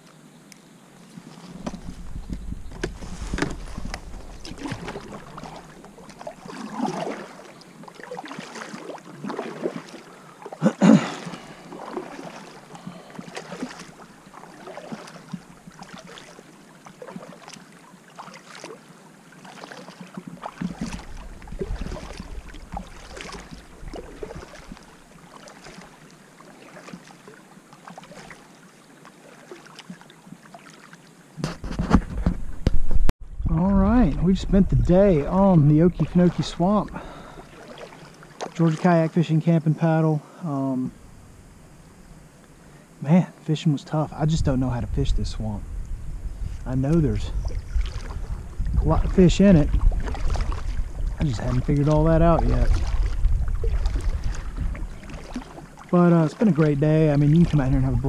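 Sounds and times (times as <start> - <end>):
kayak paddle splashing water: 1.0 - 32.4, 33.9 - 40.0, 46.6 - 58.0.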